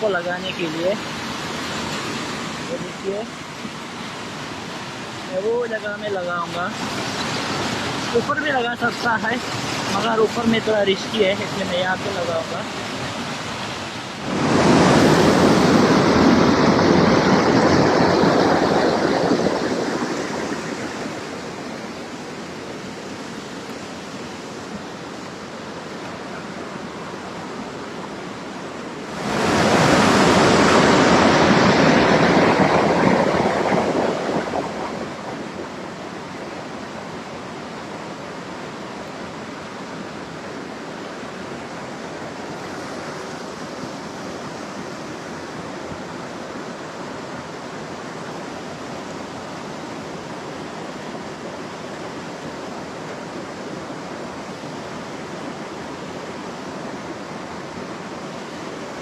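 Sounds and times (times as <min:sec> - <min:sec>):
stream waterfall pouring: 0:00.0 - 0:28.2, 0:29.0 - 0:59.0
water rushing surge: 0:00.0 - 0:59.0.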